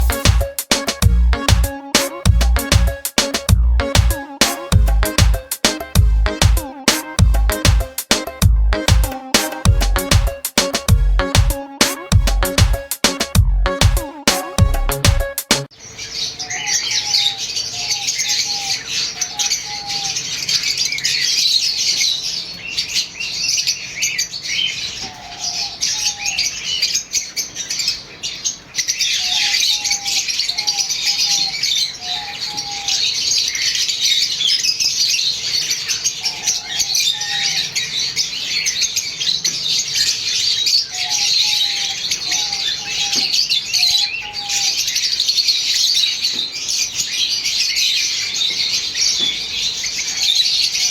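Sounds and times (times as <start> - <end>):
birds chirping and chattering: 0.0 - 50.9.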